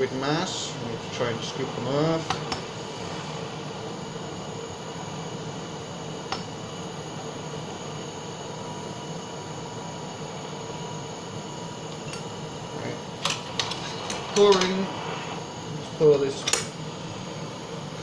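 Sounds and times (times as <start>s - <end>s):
blowtorch flame hissing: 0.0s - 18.0s.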